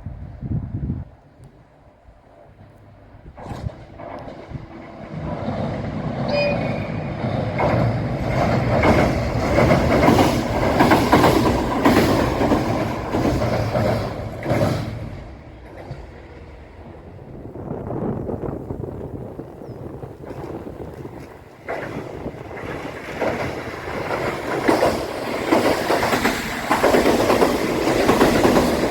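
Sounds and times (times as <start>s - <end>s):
diesel train passing: 0.0s - 28.9s
wheels clacking over rail joints: 2.3s - 28.9s.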